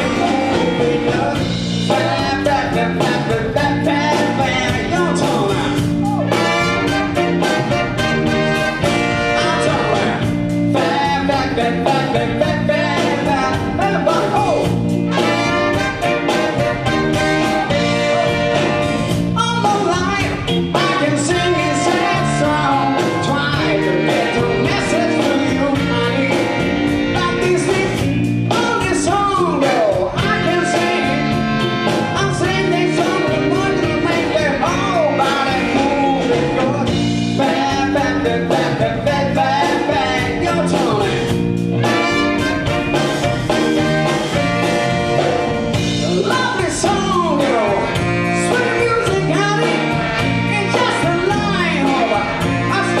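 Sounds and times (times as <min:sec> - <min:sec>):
live band music: 0:00.0 - 0:53.0
person singing: 0:00.0 - 0:53.0
steady drum beat: 0:00.0 - 0:53.0.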